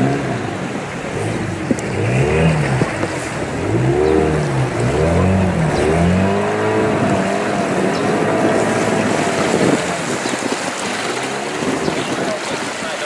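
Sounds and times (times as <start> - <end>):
motor engine revving: 0.0 - 12.3
steady rushing noise: 0.0 - 13.0.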